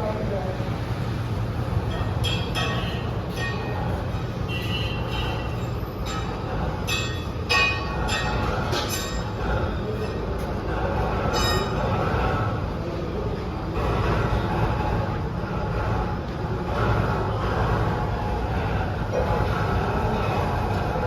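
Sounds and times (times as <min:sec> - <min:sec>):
heavy machinery rumbling: 0:00.0 - 0:21.0.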